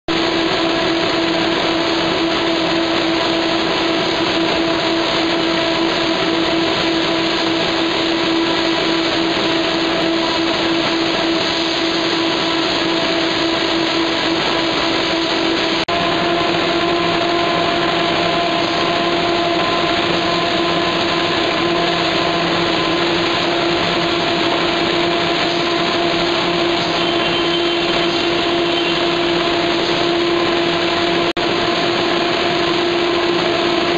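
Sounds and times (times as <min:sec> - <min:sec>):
constant hum tone: 0:00.1 - 0:33.9
corrugator machine running: 0:00.1 - 0:33.9.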